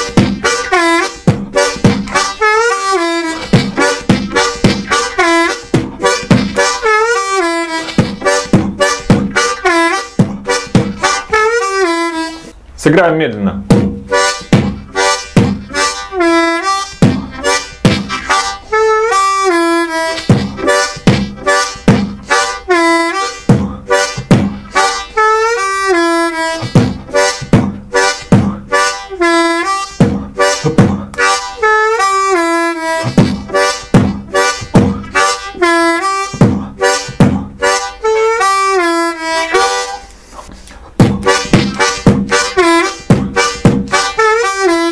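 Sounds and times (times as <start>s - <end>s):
beatboxed kick thumps: 0.0s - 12.6s, 13.6s - 44.9s
blues harmonica: 0.0s - 12.6s, 14.0s - 44.9s.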